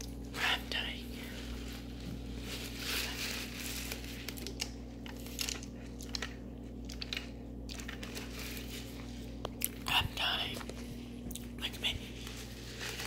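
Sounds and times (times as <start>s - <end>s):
foam cup rustling and crinkling: 0.0s - 10.9s, 11.9s - 13.0s
steady low hum: 0.0s - 13.0s.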